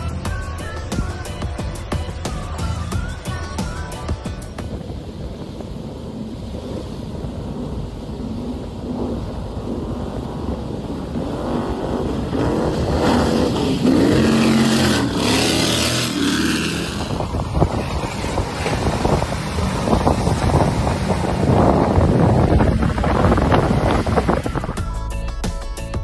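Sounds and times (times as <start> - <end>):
powerboat engines passing: 0.0 - 24.8
wind and water noise: 0.0 - 26.0.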